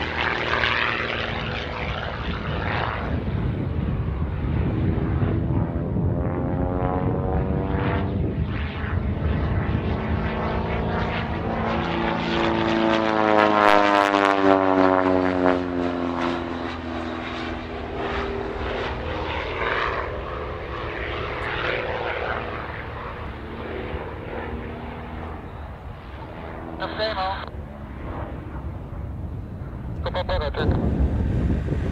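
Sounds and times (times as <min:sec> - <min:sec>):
propeller plane engine: 0:00.0 - 0:31.9.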